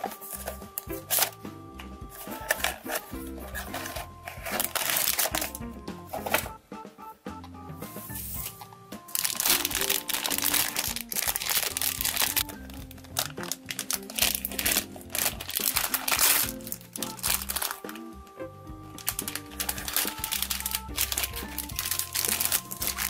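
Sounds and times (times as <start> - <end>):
foil pouch crinkling: 0.0 - 1.4, 2.1 - 6.5, 8.1 - 18.1, 18.9 - 23.0
cheerful background music: 0.0 - 23.0.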